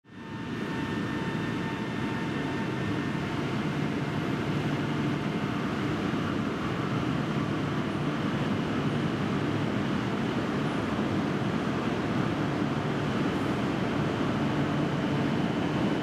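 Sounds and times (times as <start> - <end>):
faint high whine: 0.1 - 16.0.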